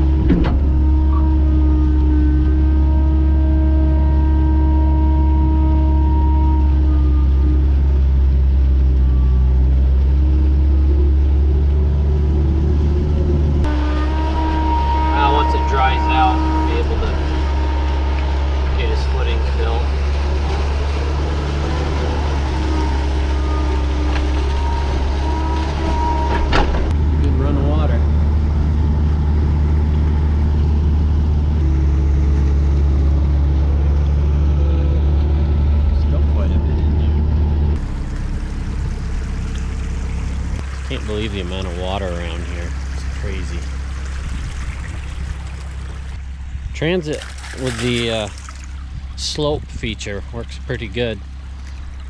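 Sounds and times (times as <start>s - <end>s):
excavator diesel engine running: 0.0s - 47.0s
high whine: 0.0s - 50.5s.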